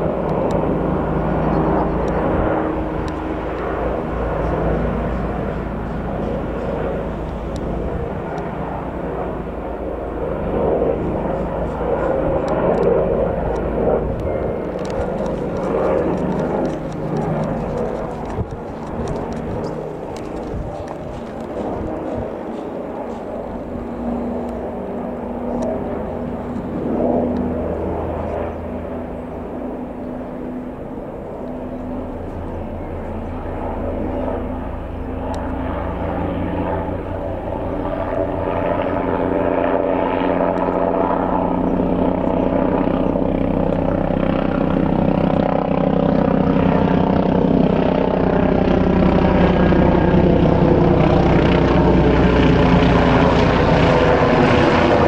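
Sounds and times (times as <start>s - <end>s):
helicopter rotor beating: 0.0s - 55.0s
helicopter turbines whining: 0.0s - 55.0s.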